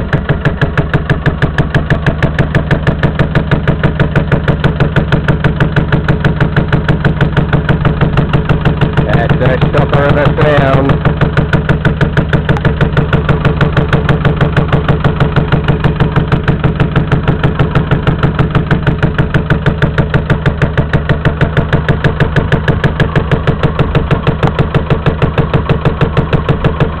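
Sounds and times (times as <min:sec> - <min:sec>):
diesel engine idling: 0:00.0 - 0:27.0
rapid regular banging from engine: 0:00.0 - 0:27.0.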